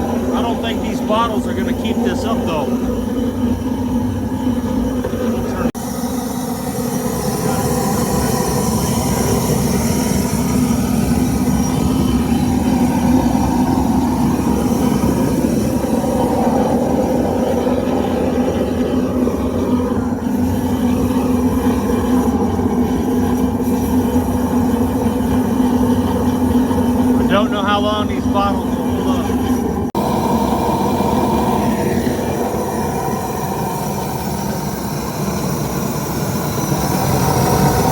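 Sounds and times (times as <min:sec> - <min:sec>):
propane burner flame rushing: 0:00.0 - 0:37.9.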